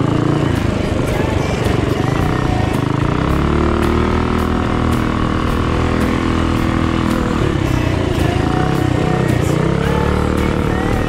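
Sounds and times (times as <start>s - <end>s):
minibike engine running hard: 0.0s - 11.0s.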